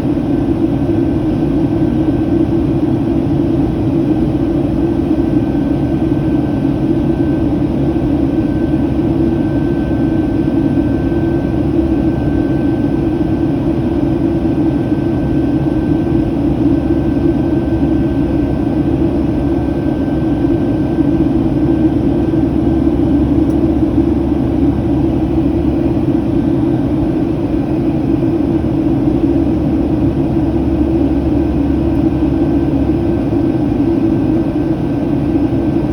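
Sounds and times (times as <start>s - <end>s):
jet engine and airflow rumble: 0.0s - 35.9s
faint steady whine: 4.2s - 35.9s.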